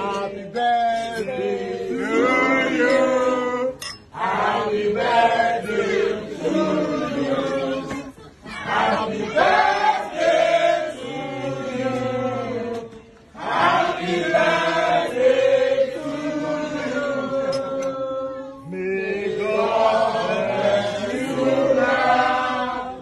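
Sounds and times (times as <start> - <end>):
group singing in chorus: 0.0 - 23.0.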